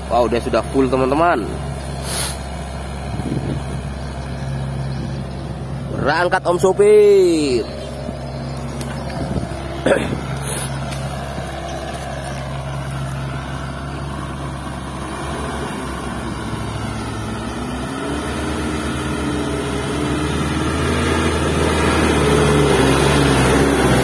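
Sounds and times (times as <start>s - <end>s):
diesel truck engine revving: 0.0s - 24.0s.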